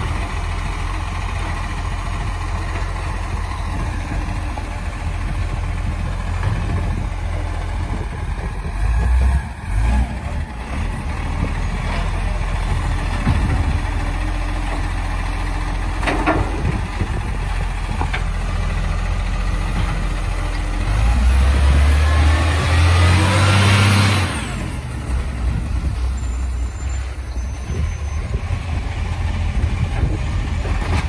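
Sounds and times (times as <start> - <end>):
diesel garbage truck engine: 0.0 - 31.0.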